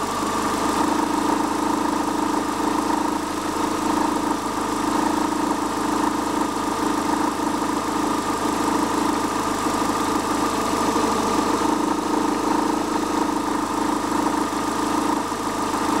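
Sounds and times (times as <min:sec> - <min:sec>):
car engine idling with rattle: 0:00.0 - 0:16.0.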